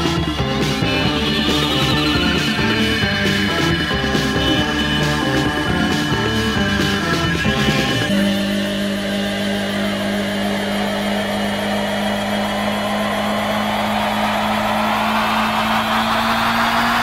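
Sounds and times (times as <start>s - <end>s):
low drone: 0.0s - 17.0s.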